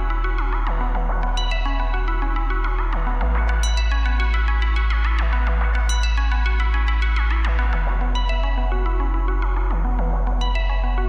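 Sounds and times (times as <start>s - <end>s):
electronic music with synth notes: 0.0s - 11.0s.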